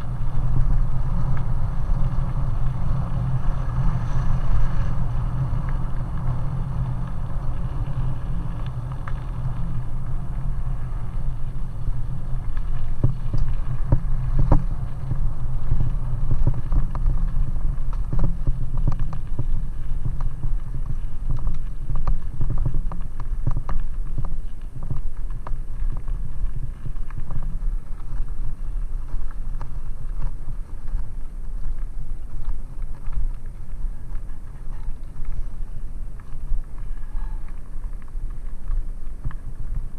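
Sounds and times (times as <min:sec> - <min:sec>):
bicycle rolling over gravel: 0:00.0 - 0:39.9.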